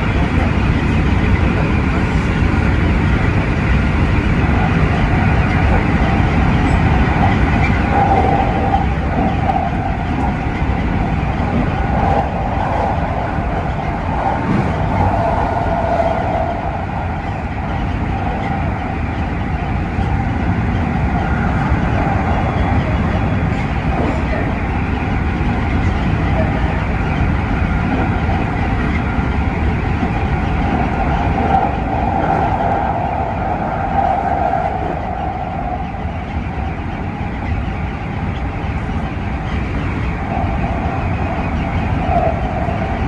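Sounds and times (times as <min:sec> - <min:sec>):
train wheels rumbling on rail: 0:00.0 - 0:43.0
wavering train whine: 0:00.0 - 0:43.0.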